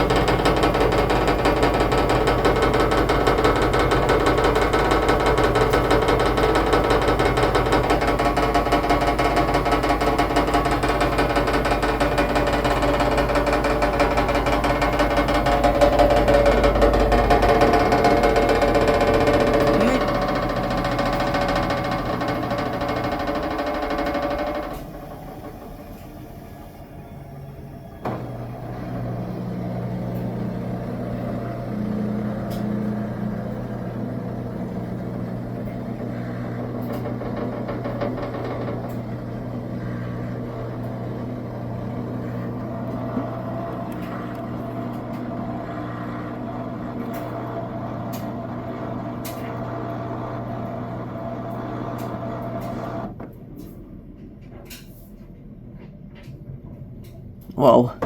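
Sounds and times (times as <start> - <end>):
washing machine spin hum: 0.0 - 58.0.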